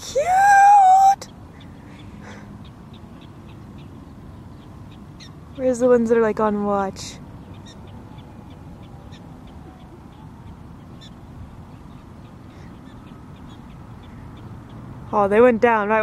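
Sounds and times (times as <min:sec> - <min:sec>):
prairie dogs chirping alarm calls: 0:00.3 - 0:06.6, 0:07.2 - 0:15.8.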